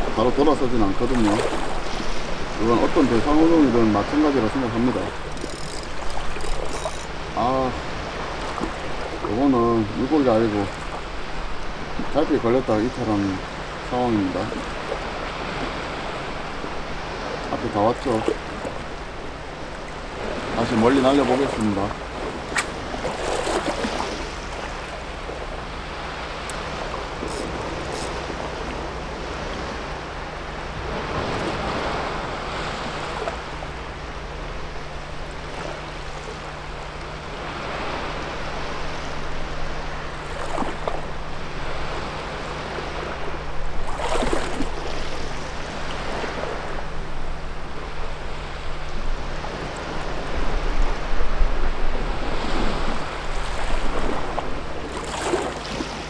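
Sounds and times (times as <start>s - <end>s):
sea waves on rocky shore: 0.0s - 56.0s.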